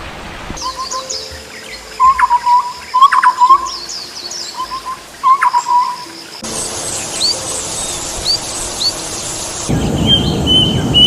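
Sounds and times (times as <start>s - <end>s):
birds calling in quick notes: 0.6s - 11.0s
sharp loud bird calls: 0.6s - 11.0s.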